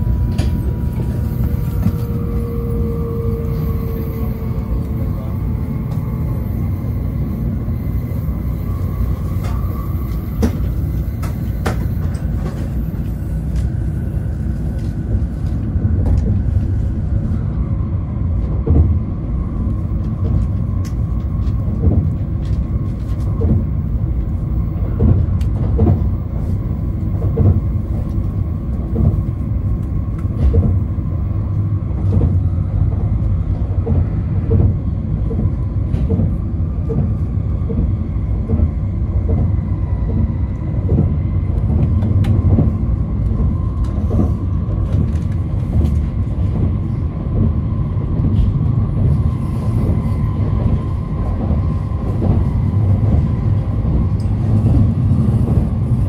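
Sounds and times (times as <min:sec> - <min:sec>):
train cabin low rumble: 0:00.0 - 0:56.0.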